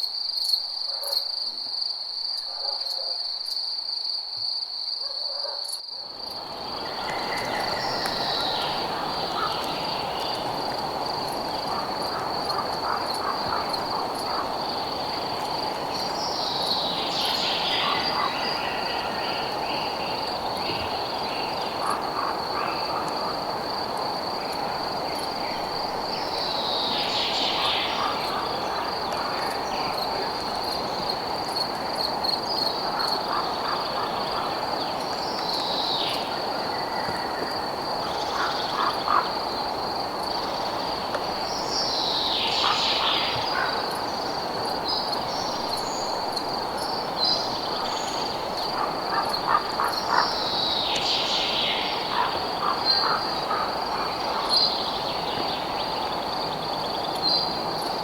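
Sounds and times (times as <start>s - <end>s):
crickets trilling: 0.0s - 58.0s
frogs croaking: 5.0s - 58.0s.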